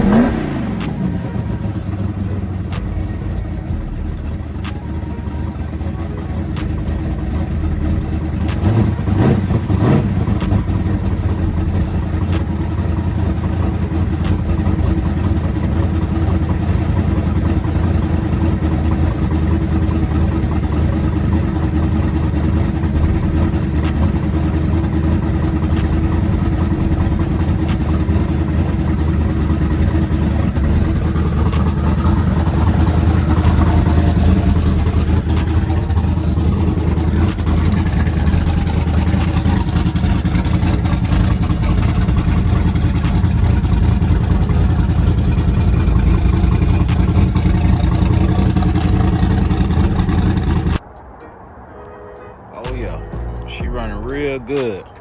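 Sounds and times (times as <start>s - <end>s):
vee eight engine idling: 0.0s - 51.4s, 52.2s - 55.0s.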